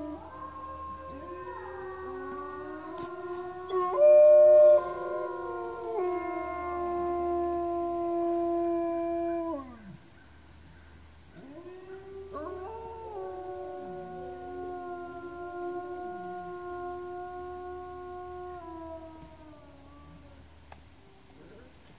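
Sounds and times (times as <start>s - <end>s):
wolves howling: 0.0s - 10.1s, 11.3s - 20.5s.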